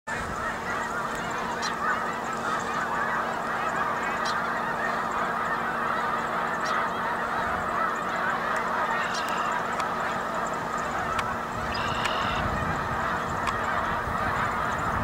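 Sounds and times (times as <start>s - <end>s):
flock of geese honking: 0.1s - 15.0s.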